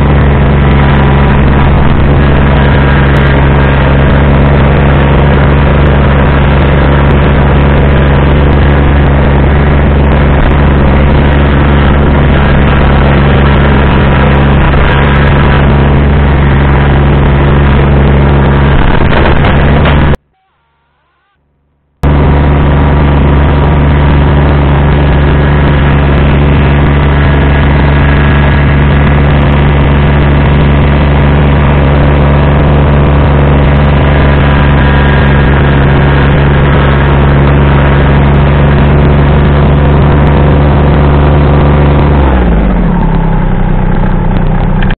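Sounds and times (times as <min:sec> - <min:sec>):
snowblower clearing snow: 0:00.0 - 0:20.2, 0:22.0 - 0:44.9
diesel tractor engine running: 0:00.0 - 0:21.3, 0:22.0 - 0:44.9.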